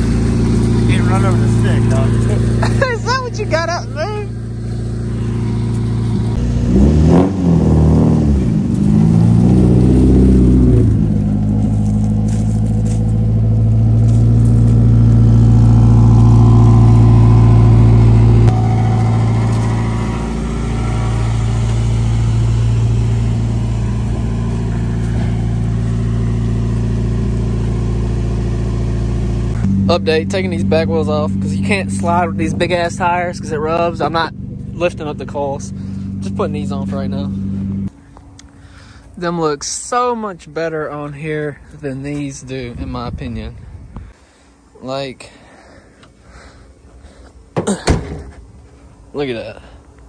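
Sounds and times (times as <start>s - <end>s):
car engine revving and idling: 0.0s - 44.2s.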